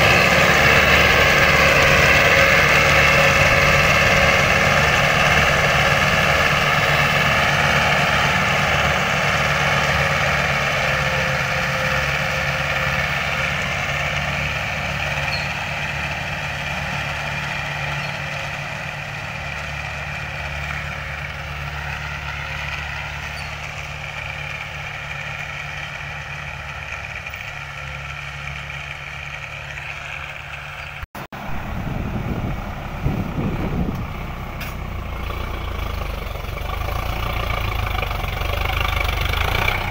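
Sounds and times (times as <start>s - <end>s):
close tractor pulling a plough: 0.0s - 39.9s
tractor diesel engine: 0.0s - 39.9s.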